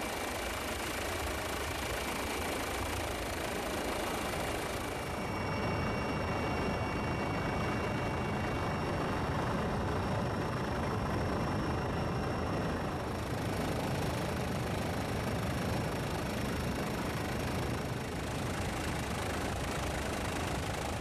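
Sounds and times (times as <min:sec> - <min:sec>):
helicopter turbine and rotor drone: 0:00.0 - 0:21.0.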